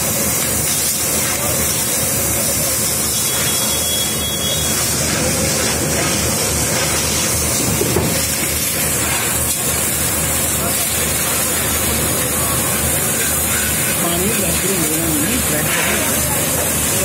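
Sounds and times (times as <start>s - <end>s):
spray and steam hissing: 0.0s - 17.0s.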